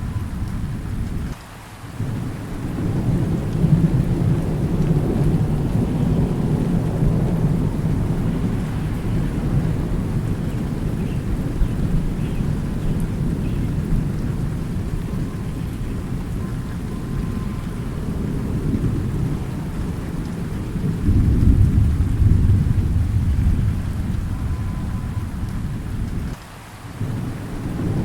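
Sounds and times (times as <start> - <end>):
low rolling thunder: 0.0 - 1.4, 2.0 - 26.4, 27.0 - 28.0
steady rain: 0.0 - 28.0.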